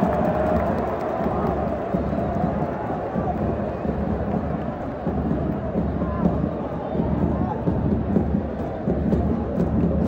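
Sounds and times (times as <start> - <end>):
stadium crowd singing and chanting: 0.0 - 10.0.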